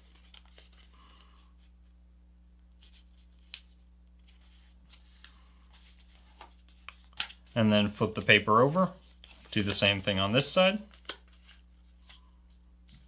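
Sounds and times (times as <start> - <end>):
paper rustling and folding: 0.0 - 1.7, 2.8 - 13.0
low electrical hum: 0.0 - 13.0.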